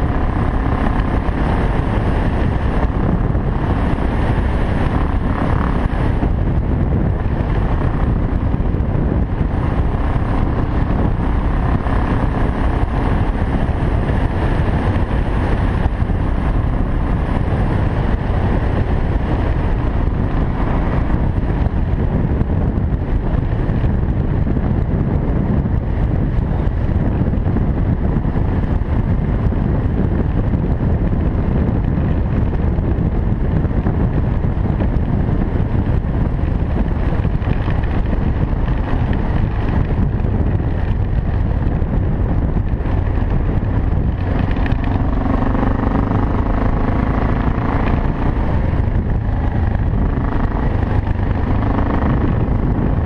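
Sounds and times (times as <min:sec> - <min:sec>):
motorcycle engine running: 0:00.0 - 0:53.0
wind buffeting microphone: 0:00.0 - 0:53.0.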